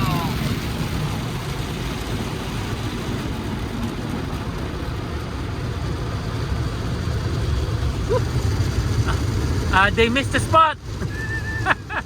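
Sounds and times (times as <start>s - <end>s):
car wash rumbling and hissing: 0.0s - 12.0s.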